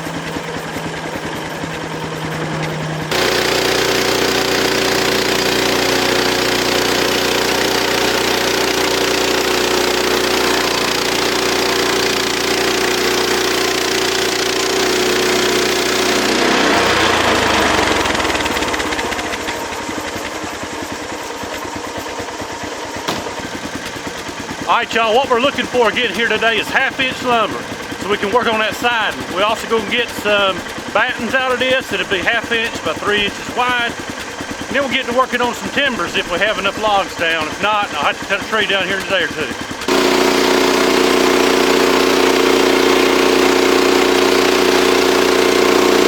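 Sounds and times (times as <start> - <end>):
sawmill engine running: 0.0 - 46.0.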